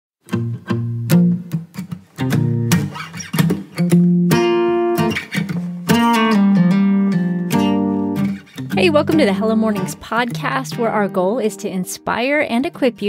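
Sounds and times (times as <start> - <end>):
guitar chords strummed and plucked: 0.2 - 13.0.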